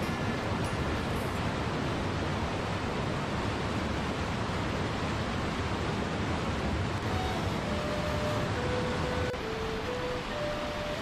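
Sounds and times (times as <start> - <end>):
white water rushing: 0.0 - 11.0.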